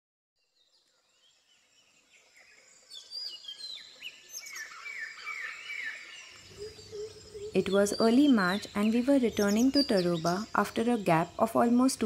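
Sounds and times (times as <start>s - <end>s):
birds chirping and calling: 2.0s - 12.0s.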